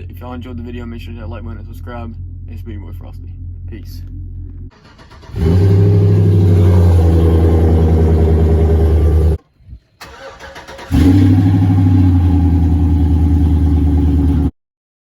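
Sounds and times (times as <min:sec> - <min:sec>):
truck exhaust deep idle rumble: 0:00.0 - 0:09.4, 0:10.9 - 0:14.5.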